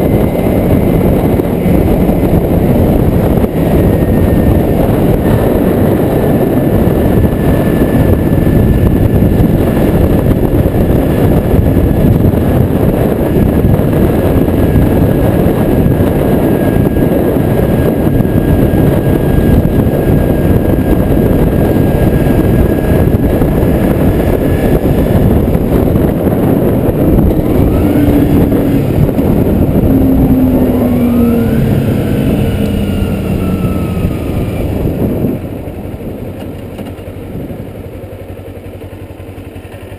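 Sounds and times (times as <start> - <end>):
motorcycle engine: 0.0 - 39.9
wind rushing on microphone: 0.0 - 39.9.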